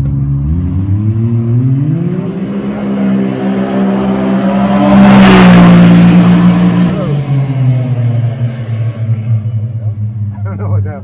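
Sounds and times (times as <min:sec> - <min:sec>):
turbocharged engine accelerating: 0:00.0 - 0:11.0.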